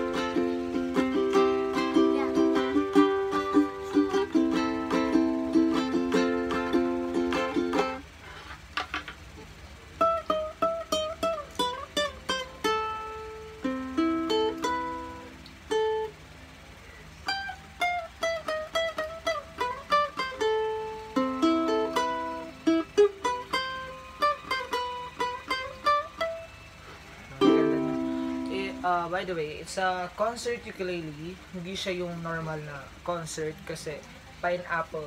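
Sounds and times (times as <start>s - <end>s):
ukulele plucked melody: 0.0s - 16.4s, 17.1s - 29.6s.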